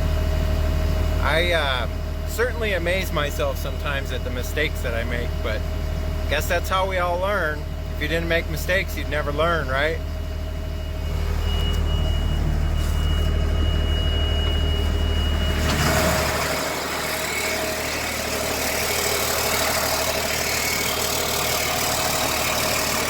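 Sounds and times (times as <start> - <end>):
diesel engine idling: 0.0 - 23.0
high whine: 0.0 - 23.0.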